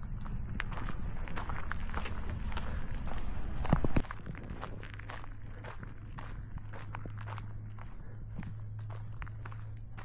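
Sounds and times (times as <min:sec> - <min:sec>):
footsteps on a hard path: 0:00.0 - 0:10.0
steady low rumble: 0:00.0 - 0:10.0.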